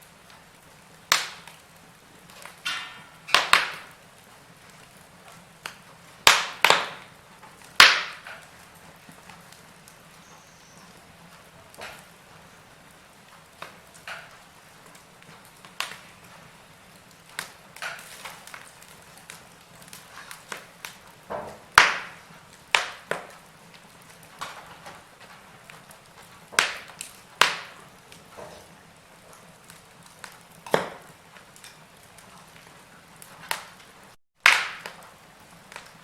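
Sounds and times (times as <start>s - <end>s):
low steady hiss: 0.0s - 36.0s
wood fire crackling: 0.0s - 36.0s.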